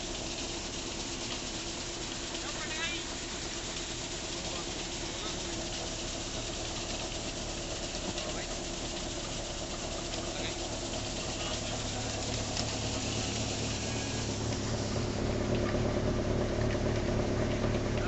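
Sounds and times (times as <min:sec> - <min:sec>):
grain cleaner mechanical hum: 0:00.0 - 0:18.0
grain rushing through machine: 0:00.0 - 0:18.0.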